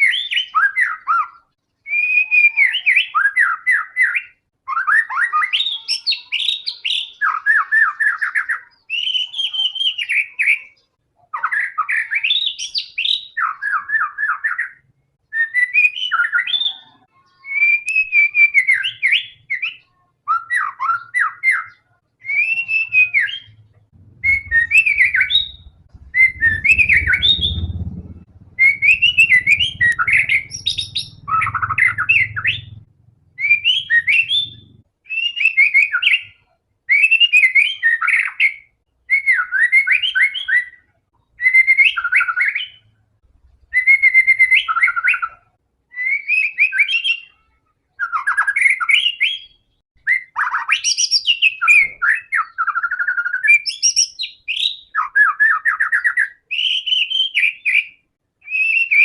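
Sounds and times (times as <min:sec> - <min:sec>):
bird singing whistled phrases: 0:00.0 - 0:32.8, 0:33.4 - 0:40.8, 0:41.4 - 0:42.8, 0:43.7 - 0:47.3, 0:48.0 - 0:59.0.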